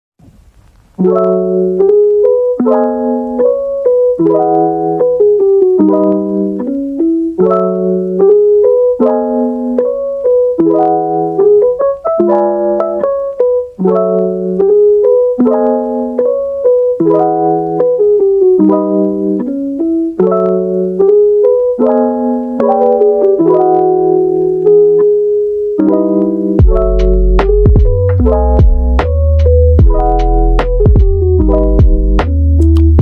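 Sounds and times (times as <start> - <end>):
soft piano chords: 1.0 - 33.0.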